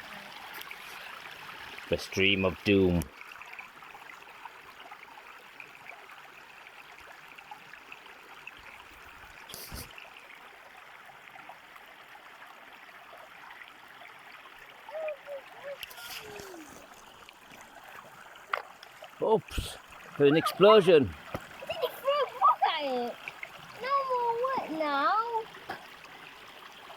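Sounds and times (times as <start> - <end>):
stream babbling over stones: 0.0 - 26.9.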